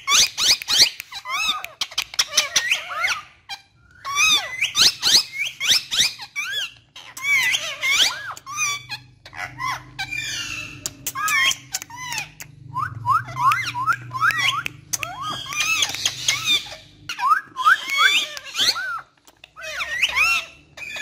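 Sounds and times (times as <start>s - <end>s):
parakeets chattering: 0.0s - 21.0s.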